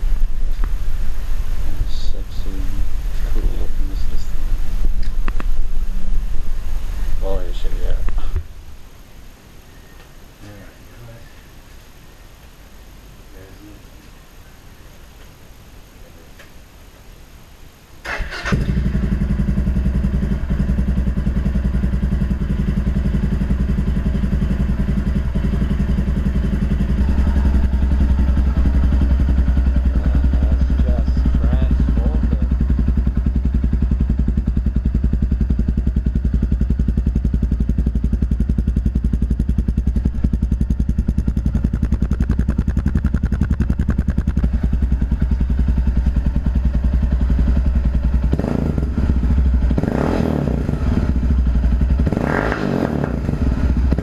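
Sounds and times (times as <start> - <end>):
motorcycle engine running: 0.0 - 8.5, 18.2 - 54.0.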